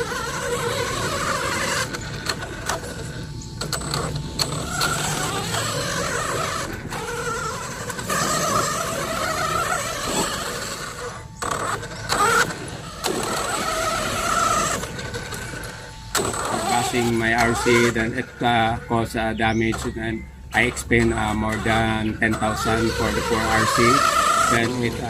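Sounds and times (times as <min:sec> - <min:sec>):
electric toy truck motor whining: 0:00.0 - 0:25.0.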